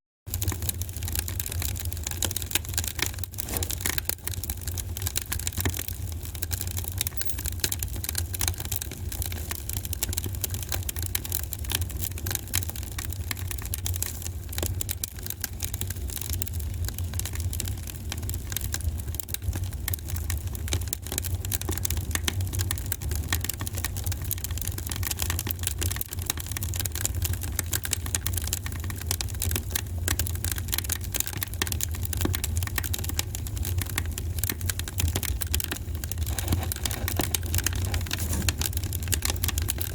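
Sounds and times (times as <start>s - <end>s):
wood fire crackling: 0.3s - 39.9s.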